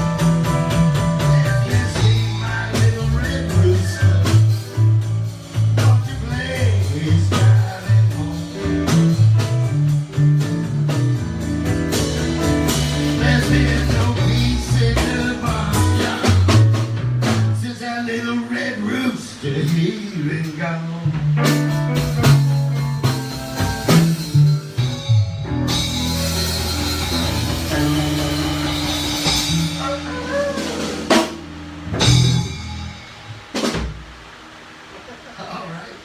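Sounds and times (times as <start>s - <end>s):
stepping bass line: 0.0s - 17.6s, 21.2s - 33.4s
steady drum hits: 0.0s - 17.8s, 21.1s - 34.5s
blues guitar: 0.0s - 36.0s.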